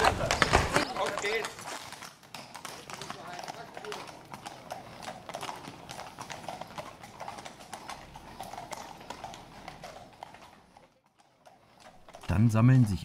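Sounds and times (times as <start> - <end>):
hooves clip-clopping on pavement: 0.0 - 13.0.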